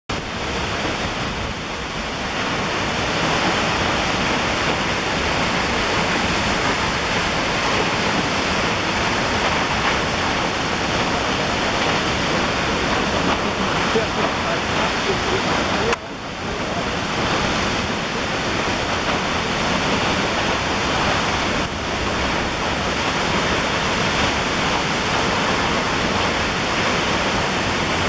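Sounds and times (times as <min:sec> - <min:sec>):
waterfall rushing: 0:00.1 - 0:28.0.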